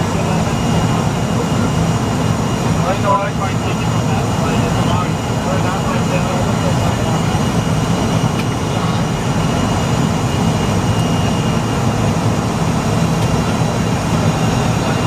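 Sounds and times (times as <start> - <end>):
airliner cabin jet engine drone: 0.0 - 15.0.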